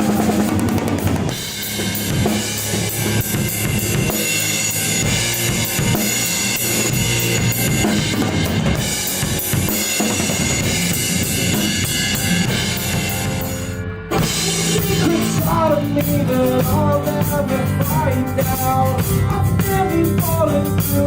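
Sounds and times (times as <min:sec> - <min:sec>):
drum kit: 0:00.0 - 0:21.0
rock band playing: 0:00.0 - 0:21.0.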